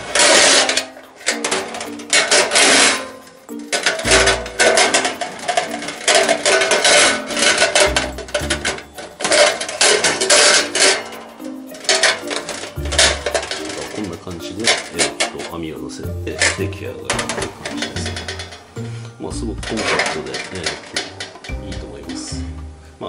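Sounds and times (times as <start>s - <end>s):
metal grill parts clattering: 0.0s - 22.6s
background music: 0.0s - 23.0s.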